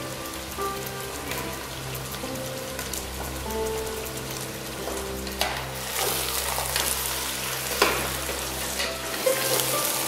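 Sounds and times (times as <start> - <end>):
meat and herbs sizzling in oil: 0.0 - 10.0.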